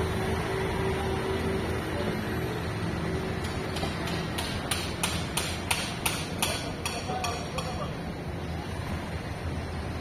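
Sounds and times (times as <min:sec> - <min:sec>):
vehicle engines humming: 0:00.0 - 0:10.0.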